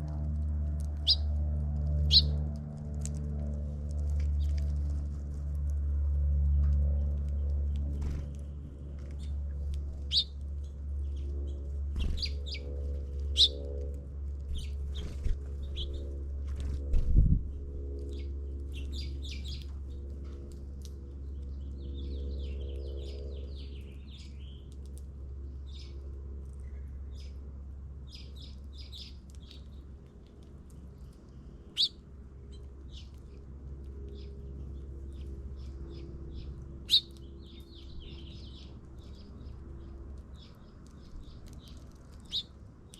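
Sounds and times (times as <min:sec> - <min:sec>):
low steady rumble: 0:00.0 - 0:42.9
small birds chirping: 0:00.9 - 0:01.3, 0:02.0 - 0:02.4, 0:06.4 - 0:13.7, 0:14.4 - 0:20.0, 0:21.1 - 0:42.9.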